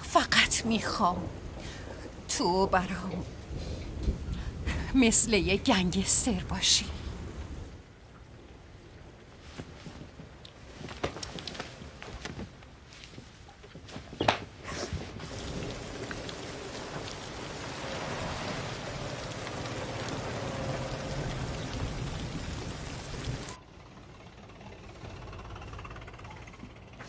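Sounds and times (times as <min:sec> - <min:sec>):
steady rain: 0:00.0 - 0:13.4, 0:14.9 - 0:23.6.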